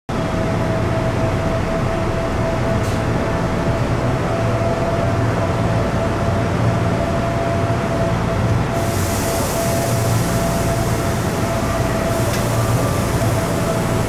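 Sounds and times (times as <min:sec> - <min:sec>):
constant high whine: 0:00.1 - 0:14.0.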